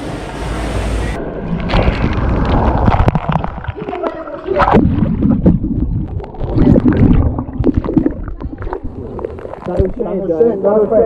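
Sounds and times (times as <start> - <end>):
water splashing and gurgling: 1.2 - 10.2.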